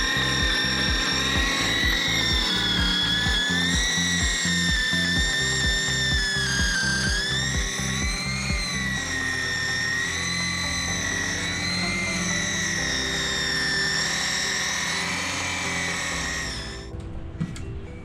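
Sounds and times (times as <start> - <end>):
power tool whine: 0.0 - 16.9
background music with beat: 0.0 - 17.9.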